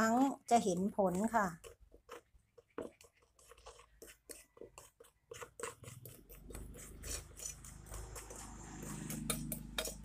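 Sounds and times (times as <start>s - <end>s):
metal spoon scraping steel bowl: 0.0s - 10.0s.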